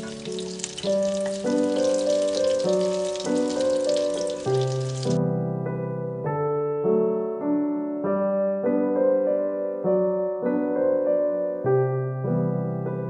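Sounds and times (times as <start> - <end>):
gentle solo piano piece: 0.0 - 13.0.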